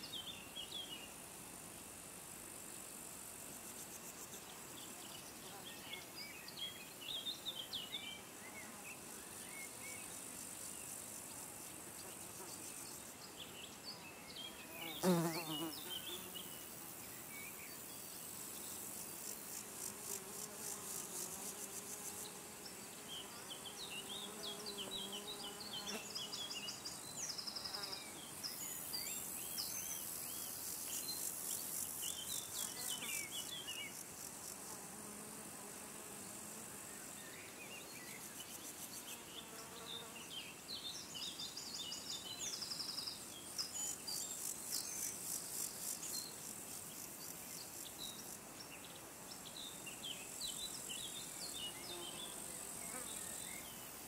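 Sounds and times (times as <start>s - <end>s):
insects trilling: 0.0s - 54.0s
flying insect buzzing past: 7.3s - 17.4s, 18.2s - 54.0s.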